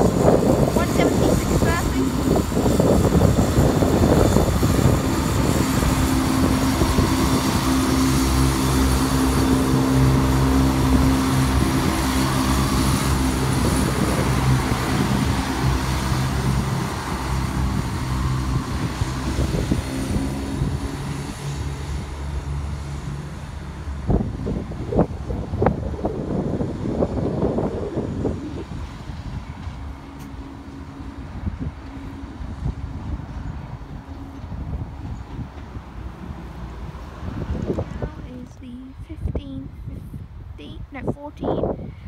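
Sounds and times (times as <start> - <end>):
diesel train engine drone: 0.0 - 42.0.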